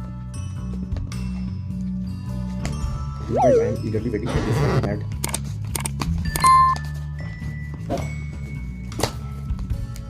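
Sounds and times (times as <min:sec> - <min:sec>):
background music with low sustained notes: 0:00.0 - 0:10.0.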